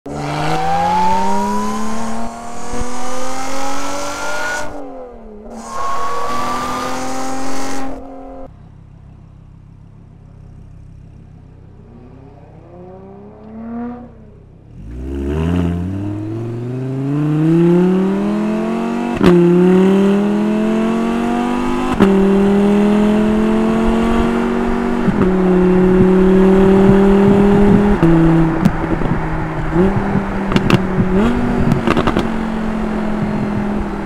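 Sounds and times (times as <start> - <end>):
sports car engine revving: 0.1 - 34.0.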